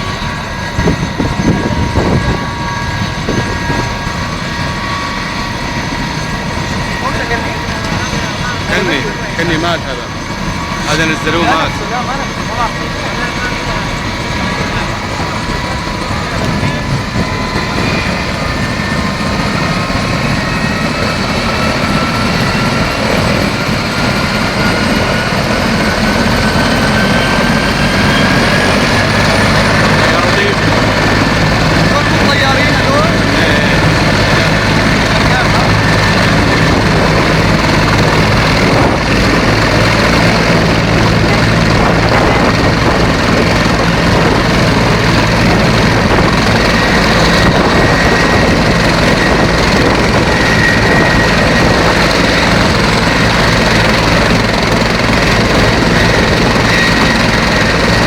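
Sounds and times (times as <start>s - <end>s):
helicopter engine whine: 0.0s - 58.0s
helicopter rotor rumble: 0.0s - 58.0s.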